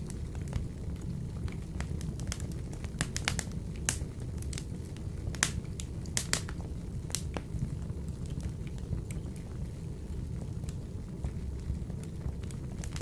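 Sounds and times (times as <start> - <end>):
logs crackling and popping: 0.0 - 13.0
low rumble of flame: 0.0 - 13.0.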